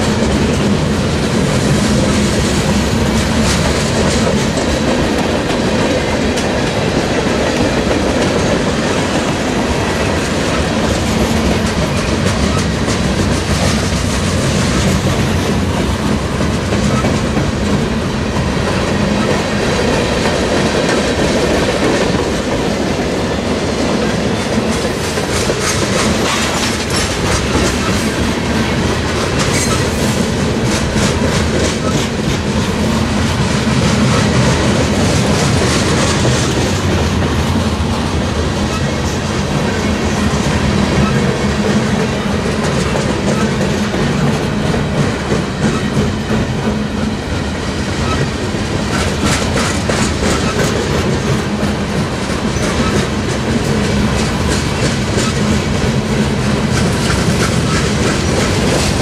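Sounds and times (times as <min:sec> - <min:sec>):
steel wheels rumbling on rail: 0:00.0 - 0:59.0
wheels clacking over rail joints: 0:00.0 - 0:59.0.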